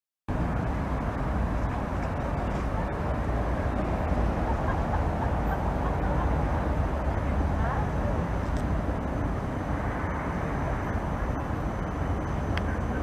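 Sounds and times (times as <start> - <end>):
city traffic rumble: 0.3 - 13.0
distant tram approaching: 0.3 - 13.0.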